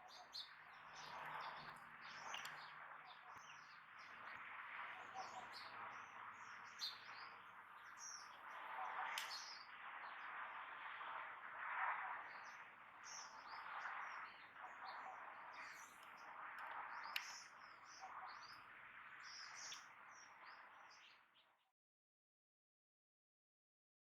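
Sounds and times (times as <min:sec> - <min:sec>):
birds chirping: 0:00.0 - 0:10.3, 0:12.2 - 0:21.4.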